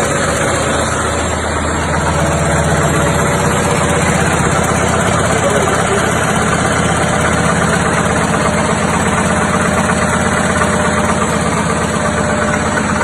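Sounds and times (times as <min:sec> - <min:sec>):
machine clattering: 0:00.0 - 0:13.0.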